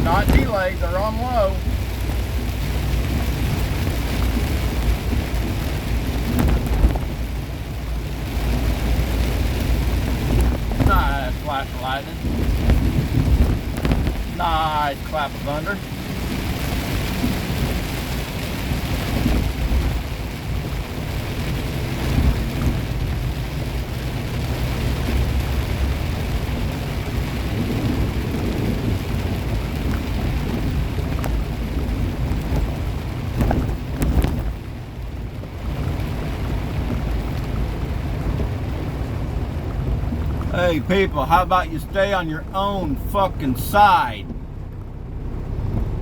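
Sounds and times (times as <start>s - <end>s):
thunder rumbling: 0.0s - 0.9s, 1.6s - 35.0s, 35.7s - 46.0s
rain beating on truck cab: 0.0s - 46.0s
road noise: 0.0s - 46.0s
truck engine: 0.0s - 46.0s.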